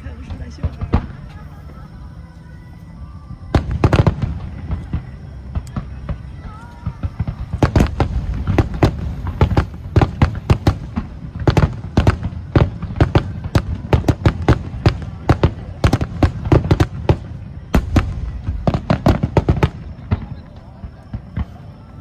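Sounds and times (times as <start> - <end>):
echoing booms: 0.0 - 1.3, 3.5 - 21.6
fireworks bursting and crackling: 0.0 - 22.0.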